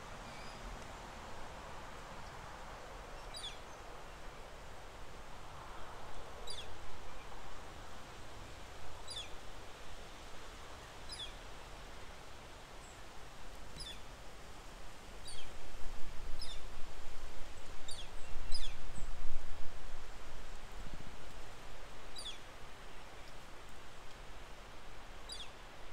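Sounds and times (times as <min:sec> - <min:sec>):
wind gusts: 0:00.0 - 0:25.9.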